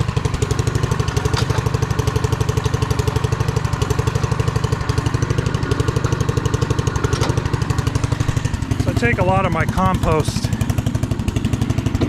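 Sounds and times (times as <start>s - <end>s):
vehicle engine chugging: 0.0s - 12.0s.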